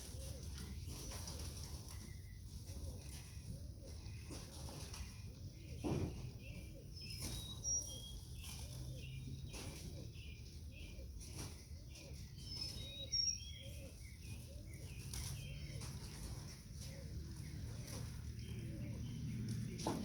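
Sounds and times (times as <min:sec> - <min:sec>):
pigeons cooing: 0:00.0 - 0:20.0
small birds chirping: 0:00.0 - 0:20.0.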